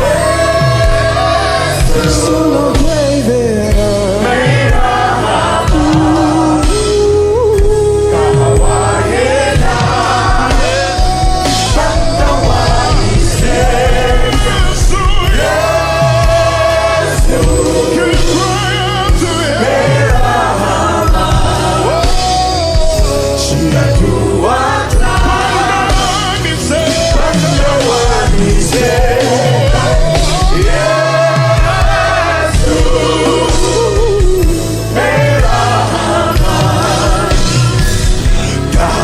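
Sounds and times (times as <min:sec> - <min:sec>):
band with bass and drums: 0:00.0 - 0:39.0.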